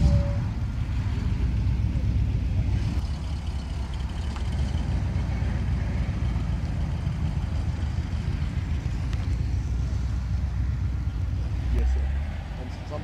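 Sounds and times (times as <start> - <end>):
car exhaust rumble passing: 0.0 - 13.0.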